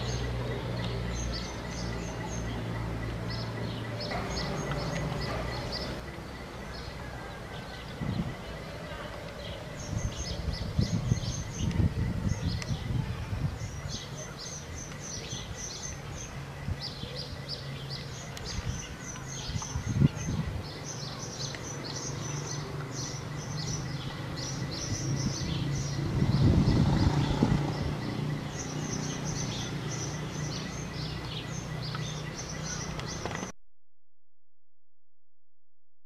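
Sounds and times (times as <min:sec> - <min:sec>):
small birds chirping: 0:00.0 - 0:33.5.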